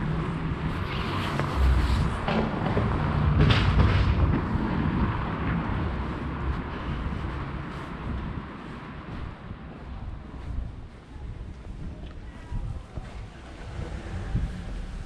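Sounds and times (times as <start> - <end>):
low rumble of traffic: 0.0 - 15.0
wind buffeting microphone: 0.0 - 15.0.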